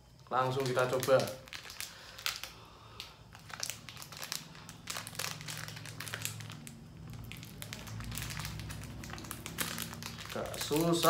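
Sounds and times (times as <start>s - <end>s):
plastic wrapper crinkling: 0.1s - 11.0s.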